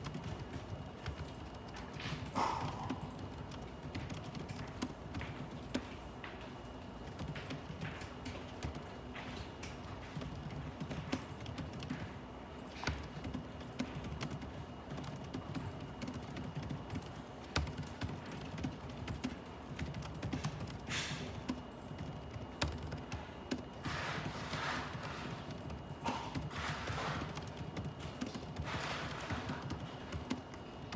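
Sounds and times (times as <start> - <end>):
keyboard typing: 0.0 - 30.9
office hum: 0.0 - 30.9.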